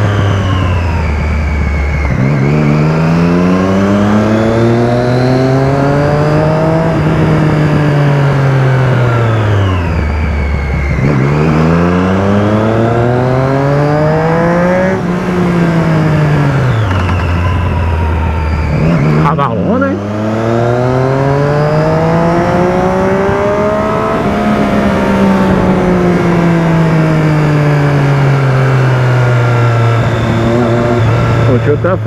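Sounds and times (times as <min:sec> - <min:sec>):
motorcycle engine revving: 0:00.0 - 0:32.0
wind and road noise: 0:00.0 - 0:32.0.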